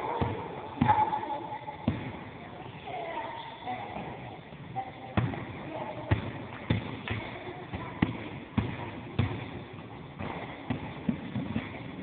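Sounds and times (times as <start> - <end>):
basketball bouncing on court: 0.0 - 1.2, 1.8 - 2.4, 3.9 - 12.0.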